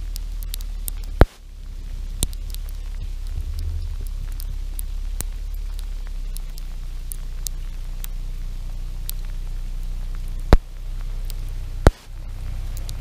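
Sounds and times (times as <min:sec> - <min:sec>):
light ticks: 0:00.0 - 0:13.0
low rumble: 0:00.0 - 0:13.0.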